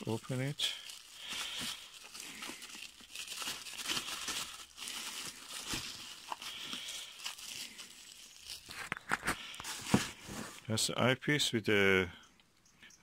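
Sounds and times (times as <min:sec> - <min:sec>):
bubble wrap crinkling: 0:00.0 - 0:10.7.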